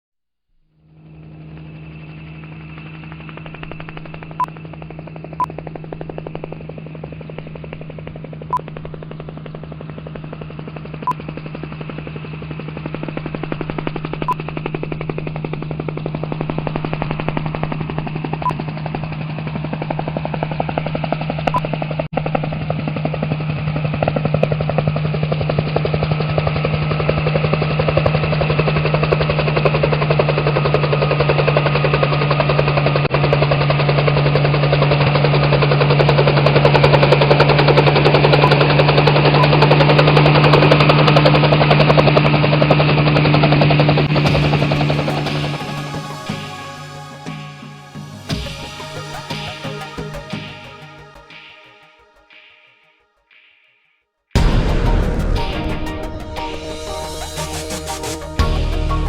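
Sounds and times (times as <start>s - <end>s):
engine running with rattling pulse: 0.8s - 47.2s, 54.4s - 59.0s.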